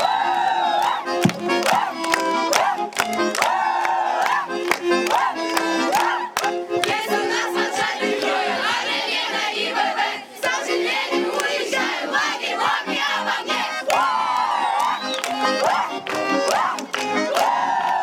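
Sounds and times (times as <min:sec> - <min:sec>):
crowd shouting and cheering: 0:00.0 - 0:06.4, 0:08.6 - 0:18.0
music playing: 0:00.0 - 0:18.0.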